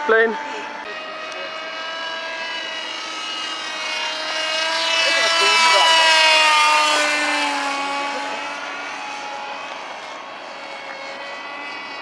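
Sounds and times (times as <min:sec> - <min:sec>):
model plane motor drone: 0:00.0 - 0:12.0.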